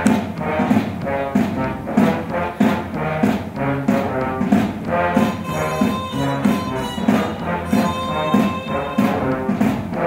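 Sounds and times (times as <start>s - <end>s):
brass swing band playing: 0.0s - 10.0s.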